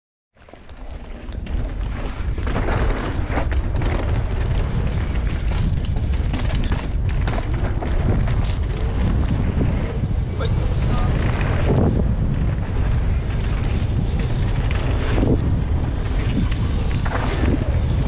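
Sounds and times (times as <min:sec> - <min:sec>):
bike clattering over bumps: 0:00.4 - 0:18.0
wind buffeting microphone: 0:01.2 - 0:18.0.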